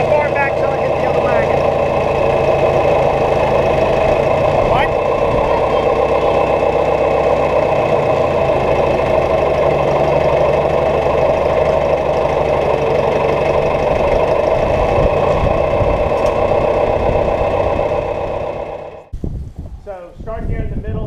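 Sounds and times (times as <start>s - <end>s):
farm machine engine running: 0.0s - 19.1s.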